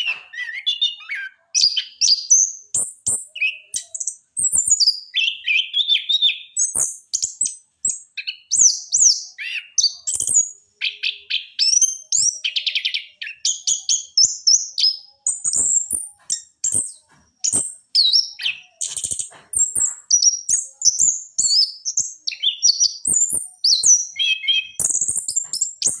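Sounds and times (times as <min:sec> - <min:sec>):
thrush singing whistled phrases: 0:00.0 - 0:26.0.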